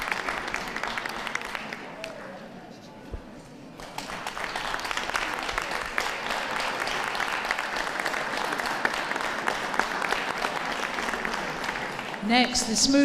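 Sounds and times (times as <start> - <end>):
audience applauding: 0.0 - 2.3, 3.8 - 12.4.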